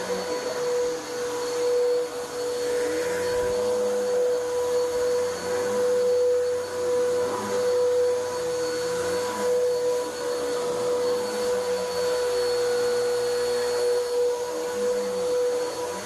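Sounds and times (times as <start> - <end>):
vacuum cleaner motor whining: 0.0 - 16.0.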